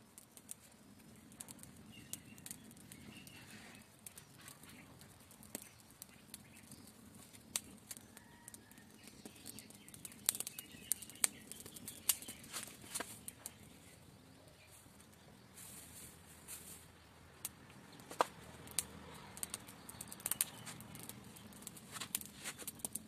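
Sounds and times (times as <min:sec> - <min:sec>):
sharp pops of fire: 0:00.0 - 0:13.7, 0:17.4 - 0:23.0
fire of grass and sticks crackling: 0:00.0 - 0:23.0.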